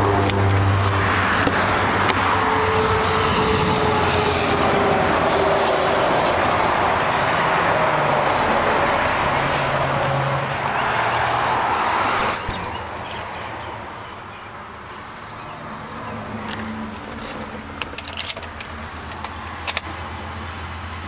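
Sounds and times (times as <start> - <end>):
highway traffic drone: 0.0 - 21.0.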